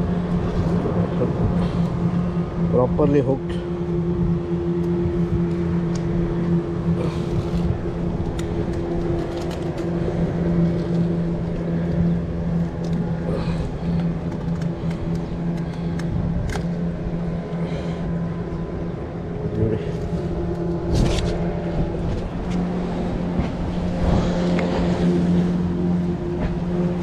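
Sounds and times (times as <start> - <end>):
engine humming: 0.0 - 27.0.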